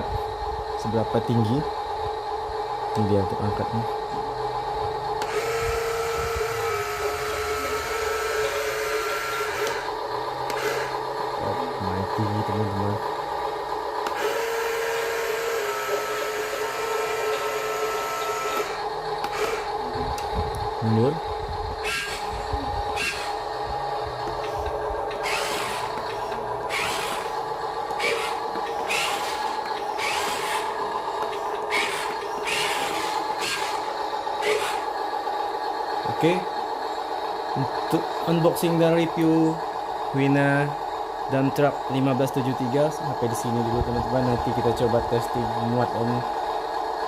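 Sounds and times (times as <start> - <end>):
electric motor and gearbox whining: 0.0 - 47.0
steady hum: 0.0 - 47.0.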